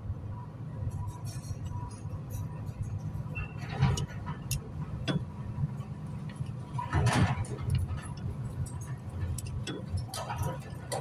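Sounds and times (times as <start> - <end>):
low background rumble: 0.0 - 11.0
copper wire clicks and ticks: 0.9 - 11.0.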